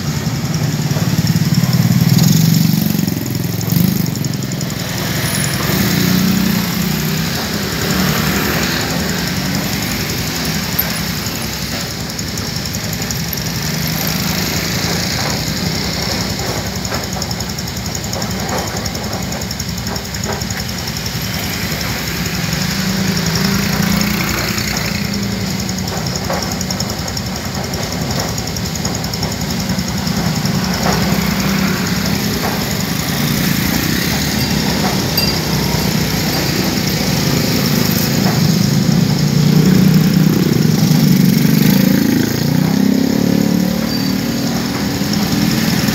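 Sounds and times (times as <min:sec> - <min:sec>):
motorcycle engines idling: 0:00.0 - 0:45.9.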